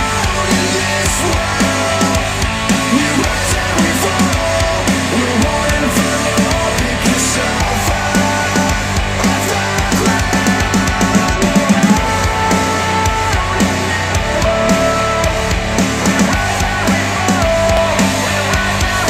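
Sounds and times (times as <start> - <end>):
rock music through speakers: 0.0 - 19.0.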